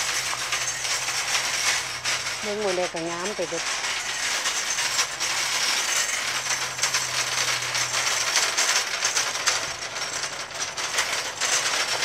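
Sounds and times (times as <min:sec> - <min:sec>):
rattling clicking clatter: 0:00.0 - 0:12.0.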